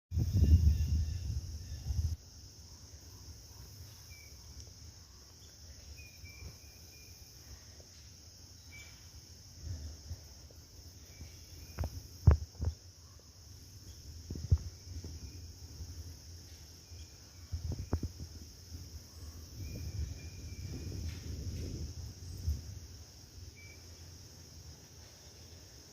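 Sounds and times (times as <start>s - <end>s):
high-pitched insect chorus: 0.1s - 25.9s
faint chirps: 0.2s - 25.9s.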